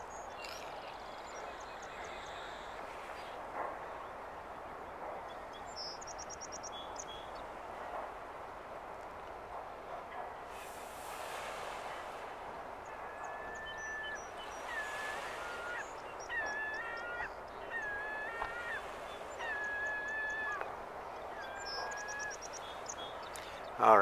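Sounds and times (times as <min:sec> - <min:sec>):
water birds calling: 0:00.0 - 0:24.0.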